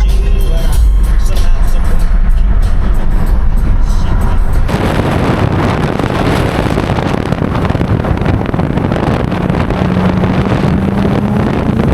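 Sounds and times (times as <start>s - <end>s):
car engine running: 0.0s - 11.9s
wind and road noise: 0.0s - 11.9s.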